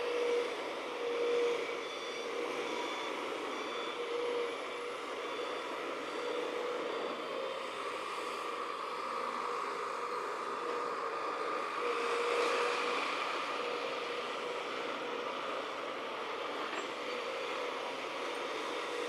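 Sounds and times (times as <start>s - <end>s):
wavering whine: 0.0s - 19.0s.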